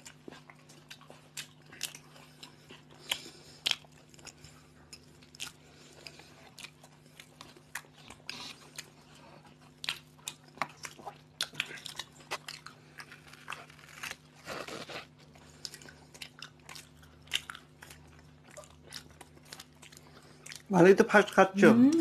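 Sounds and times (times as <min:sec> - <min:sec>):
people chewing toasted bread: 0:00.0 - 0:22.0.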